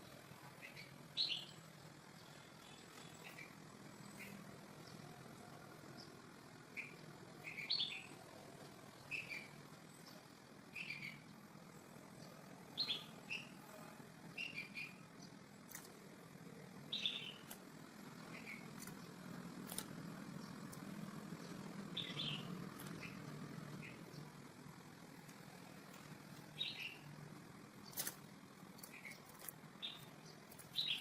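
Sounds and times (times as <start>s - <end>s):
small bird chirping: 0.0s - 5.1s, 5.8s - 31.0s.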